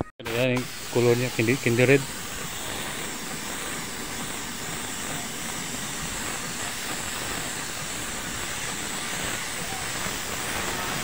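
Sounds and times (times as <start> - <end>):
spray paint hissing: 0.3 - 11.0.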